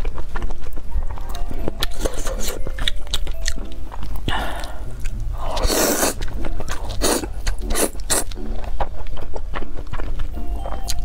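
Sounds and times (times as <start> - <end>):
wet chewing and lip smacks: 0.0 - 11.0.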